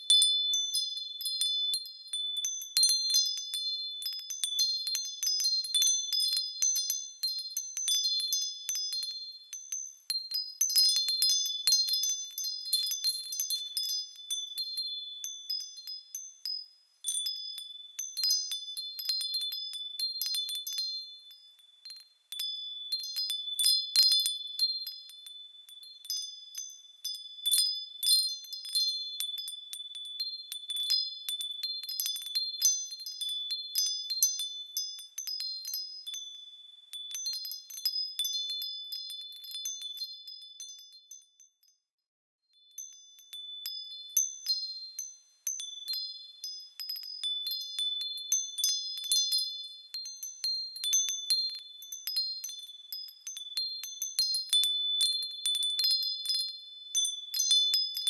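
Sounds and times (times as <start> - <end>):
small metal bells ringing: 0.0 - 41.9, 42.5 - 58.0.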